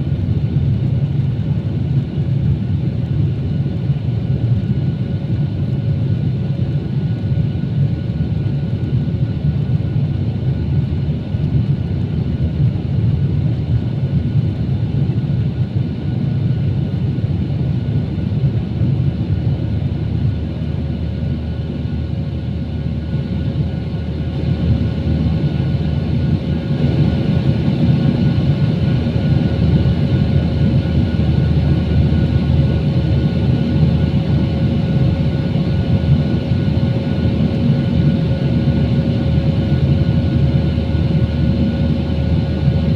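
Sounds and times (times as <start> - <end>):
jet airliner engine rumble: 0.0 - 42.9.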